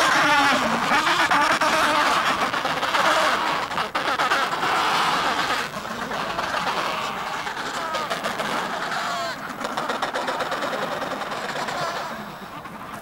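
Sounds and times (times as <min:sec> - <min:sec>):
penguin colony calling: 0:00.0 - 0:13.0.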